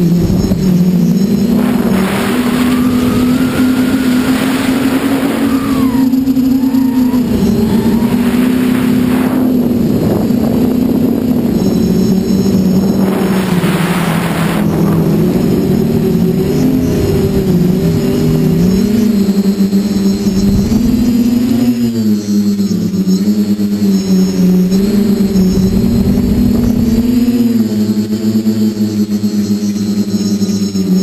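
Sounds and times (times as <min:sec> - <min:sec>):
wind rushing over microphone: 0:00.0 - 0:22.9, 0:24.0 - 0:28.1
drone propellers buzzing: 0:00.0 - 0:31.0.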